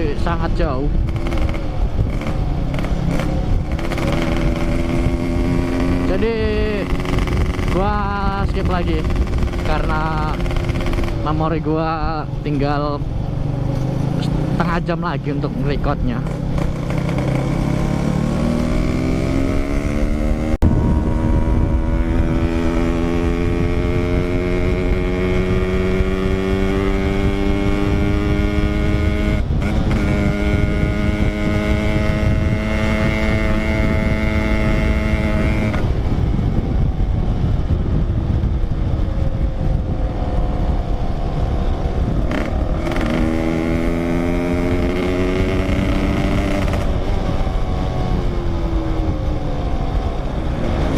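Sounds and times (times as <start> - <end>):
motorcycle engine accelerating: 0.0 - 50.9
wind rumble on microphone: 0.0 - 50.9.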